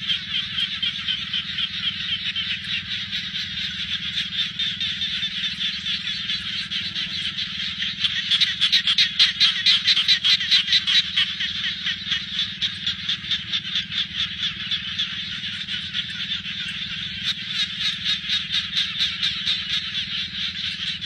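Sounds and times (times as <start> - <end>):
chorus of frogs calling: 0.0 - 21.0
loud pulsing frog call: 0.0 - 21.0.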